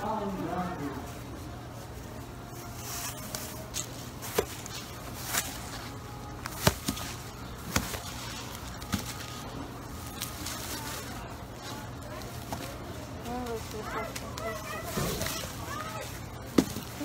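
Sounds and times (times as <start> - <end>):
low steady hum: 0.0 - 17.0
plastic bag crinkling: 1.0 - 17.0
sharp plastic crackles: 2.6 - 17.0.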